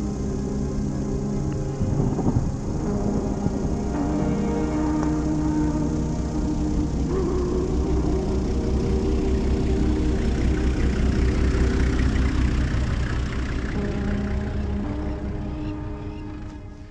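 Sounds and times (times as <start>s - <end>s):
vehicle engine passing by: 0.0s - 16.9s.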